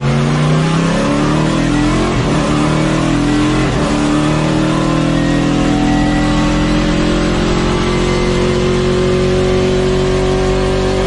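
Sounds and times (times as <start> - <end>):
race car engine running: 0.0 - 11.0.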